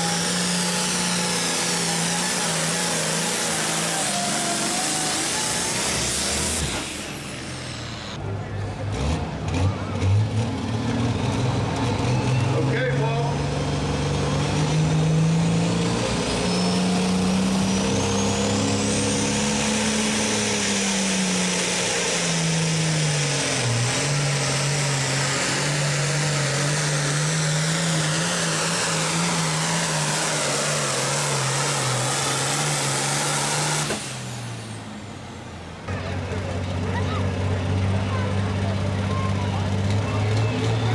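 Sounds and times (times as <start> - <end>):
diesel tractor engine under load: 0.0 - 40.9.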